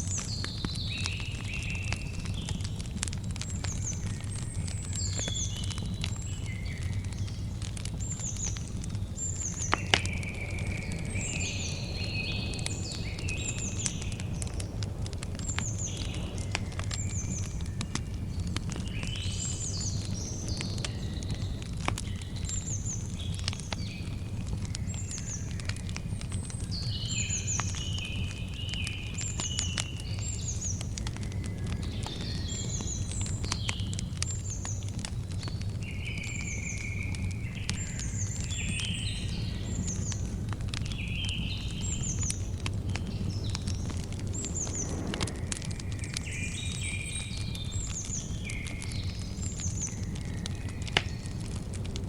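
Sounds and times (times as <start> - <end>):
campfire crackling and popping: 0.0 - 52.0
birds chirping: 0.1 - 51.8.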